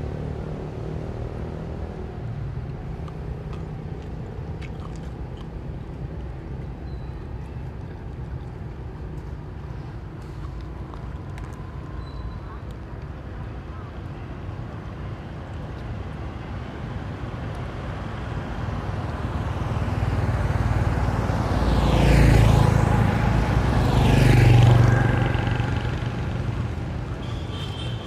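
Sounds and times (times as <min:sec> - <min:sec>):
road vehicles passing: 0:00.0 - 0:28.0.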